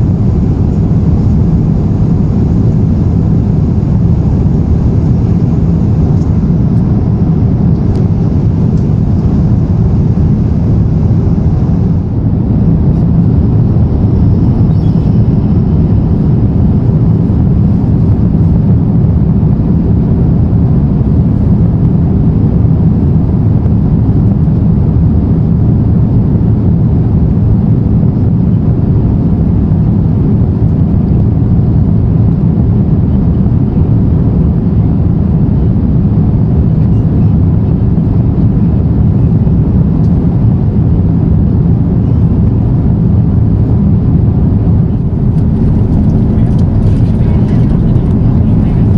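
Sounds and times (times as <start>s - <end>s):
airplane cabin engine and airflow noise: 0.0s - 48.9s.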